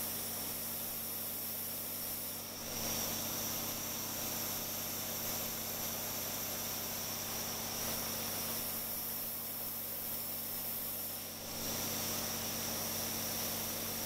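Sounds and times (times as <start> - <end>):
toy steam engine hissing and beating: 0.0 - 14.0.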